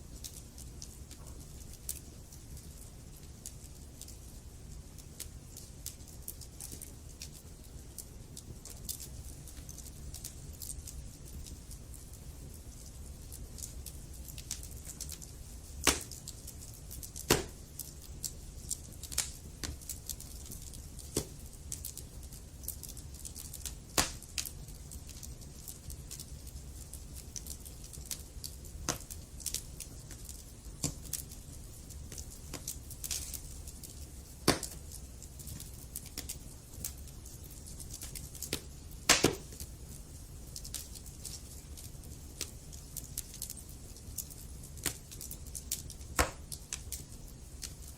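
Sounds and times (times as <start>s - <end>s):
fire rumble and hiss: 0.0s - 47.9s
wood fire crackling and popping: 0.0s - 47.9s.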